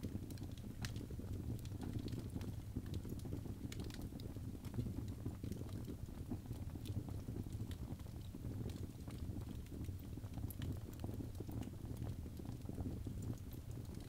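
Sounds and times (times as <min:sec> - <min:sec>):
fire snaps and pops: 0:00.0 - 0:14.0
log fire crackling: 0:00.0 - 0:14.0
low rumble of flames: 0:00.0 - 0:14.0.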